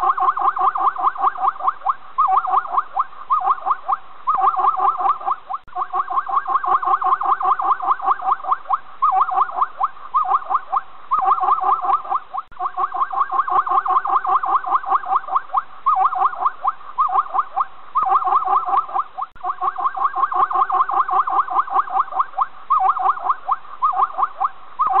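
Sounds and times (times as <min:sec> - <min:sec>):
animal chirping calls: 0:00.0 - 0:25.0.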